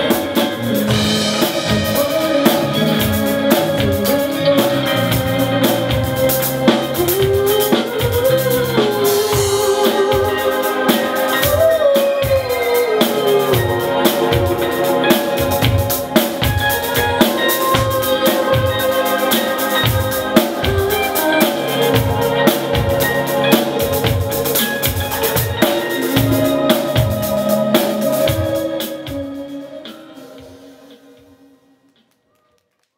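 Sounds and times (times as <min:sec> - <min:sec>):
gliding melodic line: 0:00.0 - 0:30.8
band playing live: 0:00.0 - 0:31.8
drum kit beat: 0:00.0 - 0:32.1.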